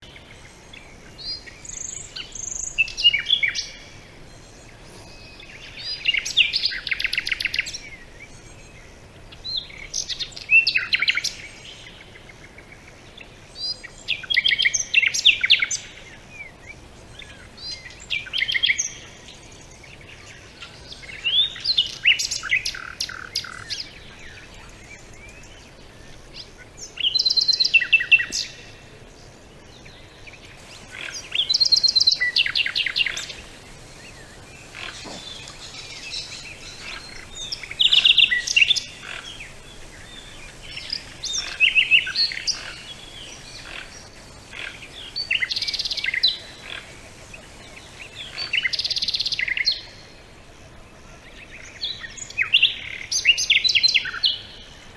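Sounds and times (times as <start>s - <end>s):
songbird singing trills: 0.0s - 50.1s
faint background hiss: 0.0s - 54.9s.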